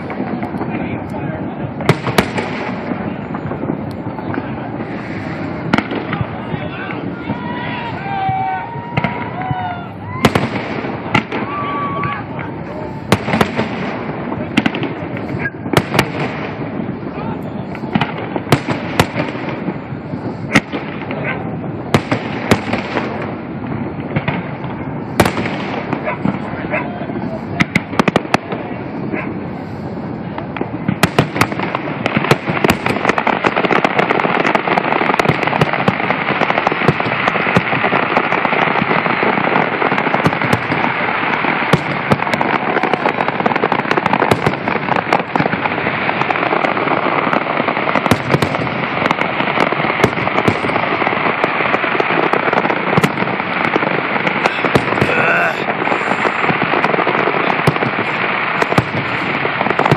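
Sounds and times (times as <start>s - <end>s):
firework shells bursting: 0.0s - 26.7s, 30.2s - 59.9s.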